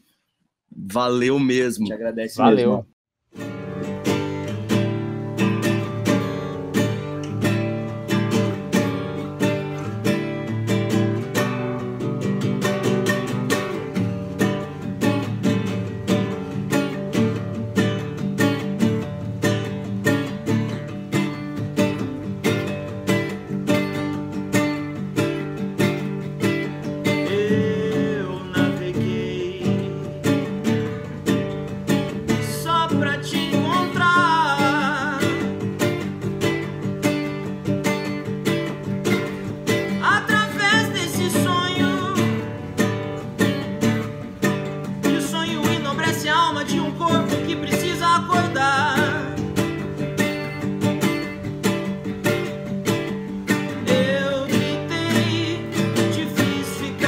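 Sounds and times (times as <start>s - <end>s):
acoustic guitars strummed and picked: 3.3s - 57.0s.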